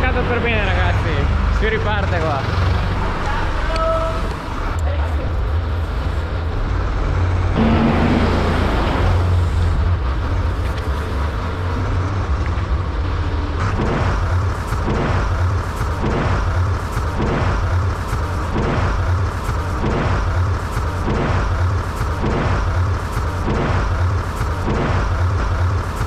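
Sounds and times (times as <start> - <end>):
diesel tractor engine running: 0.0 - 26.0
rushing noise: 3.0 - 26.0.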